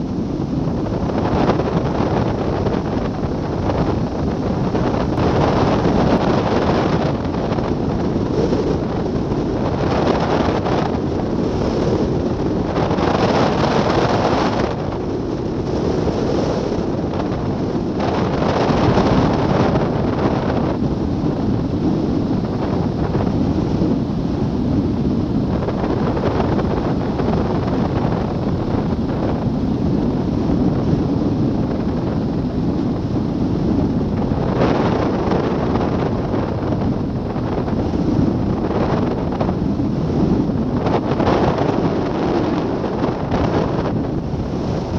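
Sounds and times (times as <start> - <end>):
wind rushing over microphone: 0.0 - 44.9.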